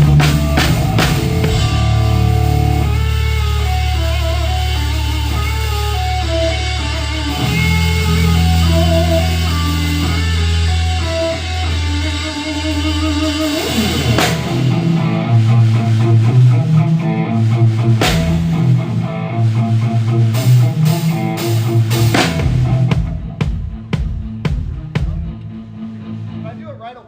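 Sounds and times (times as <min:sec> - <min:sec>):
electric guitar chord: 0:00.0 - 0:23.5
drum kit: 0:00.0 - 0:25.8
bass guitar: 0:00.0 - 0:27.0.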